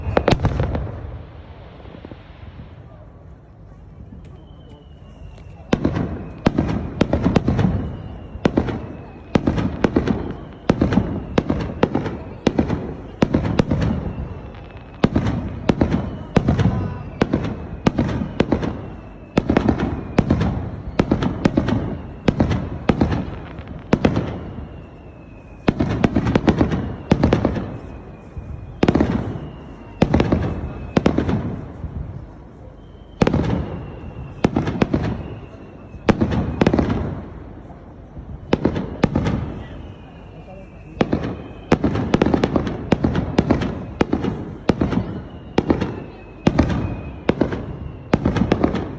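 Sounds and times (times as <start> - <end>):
fireworks booming: 0.0 - 48.9.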